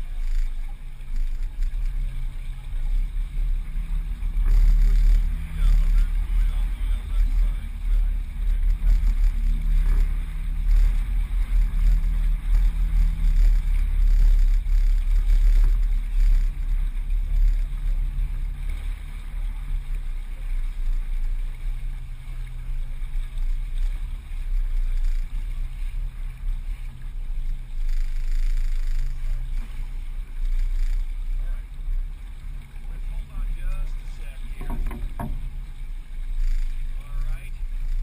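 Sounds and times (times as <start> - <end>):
water rushing along hull: 0.0 - 38.0.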